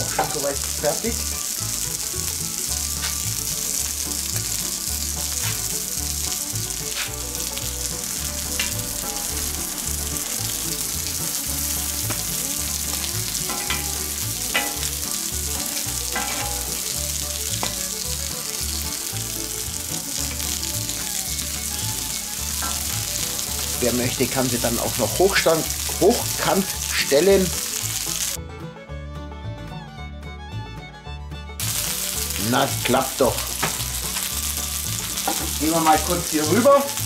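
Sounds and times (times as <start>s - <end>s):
food sizzling in fat: 0.0s - 28.4s, 31.6s - 37.0s.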